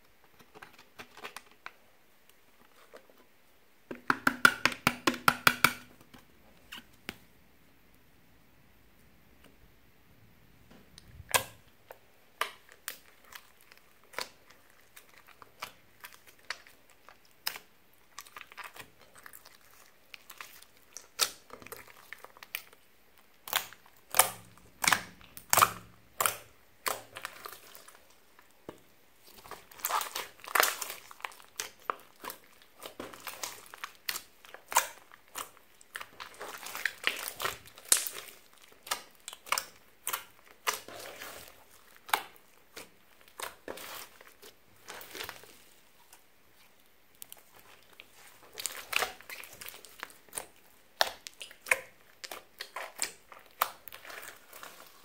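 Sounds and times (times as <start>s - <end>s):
slime squishing with wet clicks: 10.6s - 55.0s.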